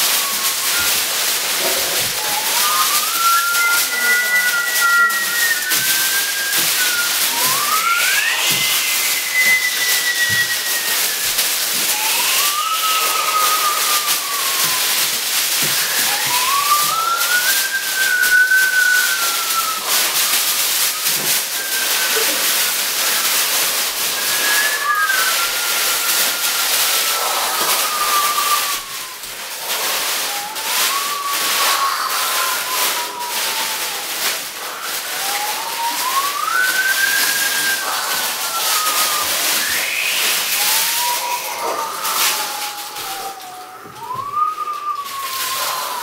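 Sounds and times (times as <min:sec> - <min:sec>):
whistling wind: 0:00.0 - 0:46.0.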